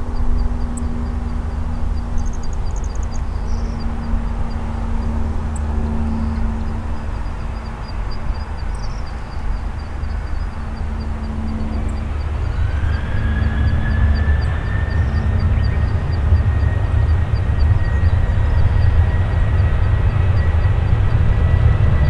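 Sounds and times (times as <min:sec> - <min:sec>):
jet engines rumbling: 0:00.0 - 0:22.0
rising engine whine: 0:00.0 - 0:22.0.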